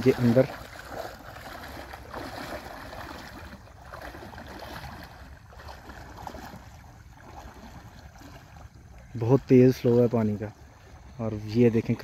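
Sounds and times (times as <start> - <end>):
water sloshing around wading man: 0.0 - 12.0.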